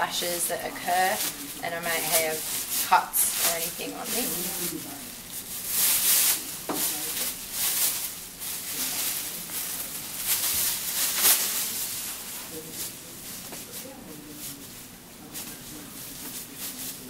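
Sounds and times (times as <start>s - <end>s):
plastic apron rustling: 0.0s - 17.0s.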